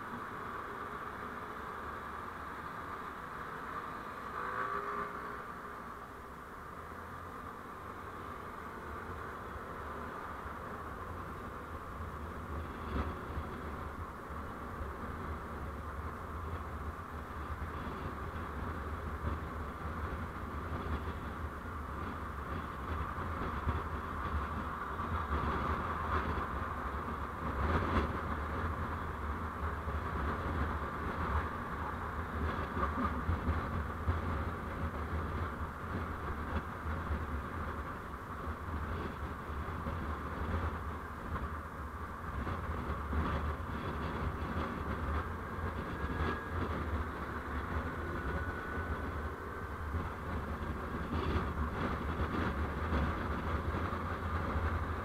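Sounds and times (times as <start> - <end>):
constant low hum: 0.0 - 55.0
vehicle road and engine noise: 0.0 - 55.0.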